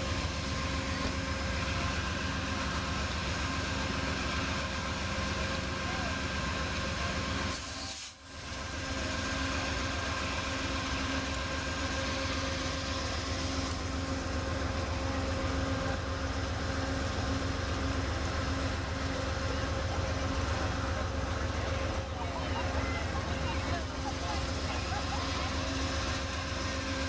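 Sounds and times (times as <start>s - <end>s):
diesel train engine idling: 0.0s - 27.0s.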